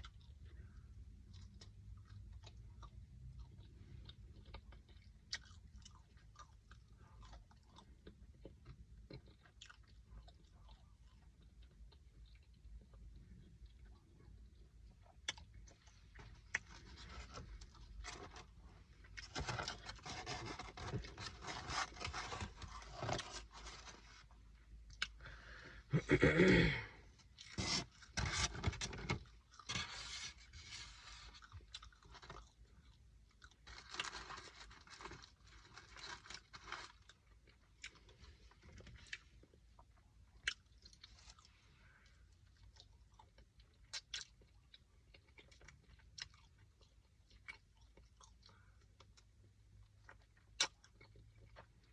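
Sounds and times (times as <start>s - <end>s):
person chewing crunchy food: 0.0s - 26.6s, 27.2s - 51.9s.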